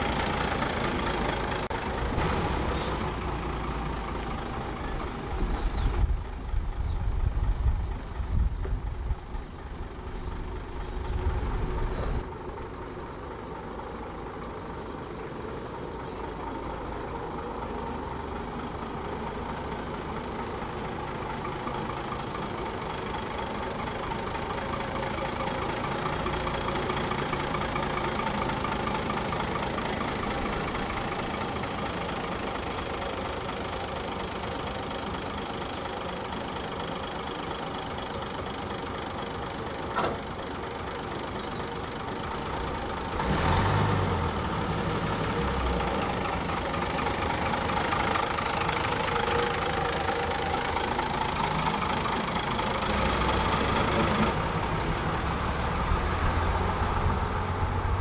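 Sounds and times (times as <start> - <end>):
diesel engine idling with knocking: 0.0 - 58.0.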